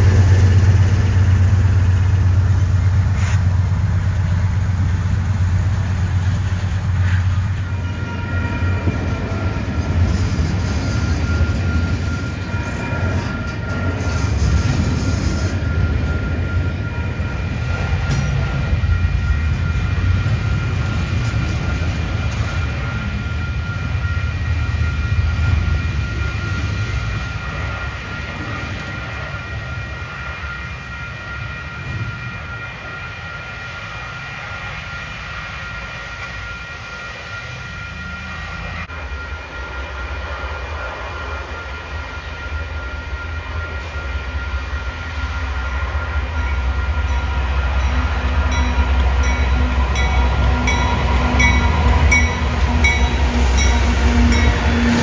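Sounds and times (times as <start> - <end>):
freight train wheels rumbling: 0.0 - 55.0
high-pitched whine: 0.0 - 55.0.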